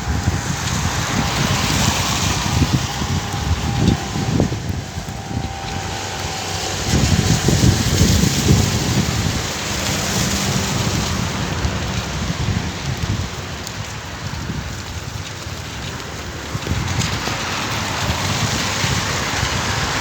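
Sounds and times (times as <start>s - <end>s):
heavy rain pouring: 0.0s - 20.0s
low thunder rumble: 0.0s - 20.0s.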